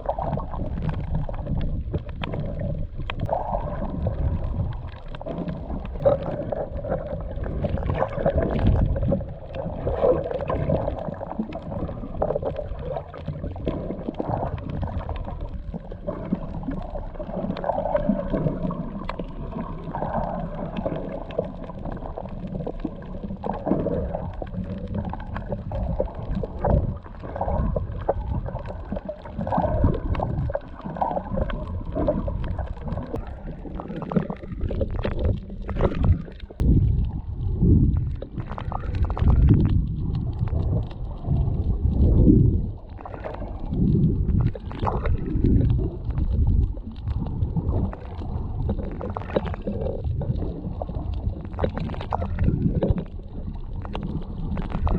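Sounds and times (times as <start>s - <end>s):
muffled underwater gurgling: 0.0s - 54.9s.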